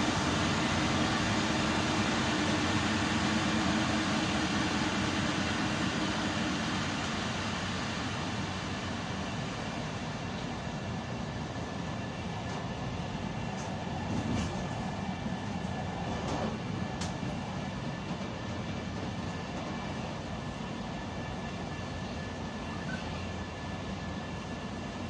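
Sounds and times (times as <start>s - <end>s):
moving train rumble: 0.0s - 25.0s.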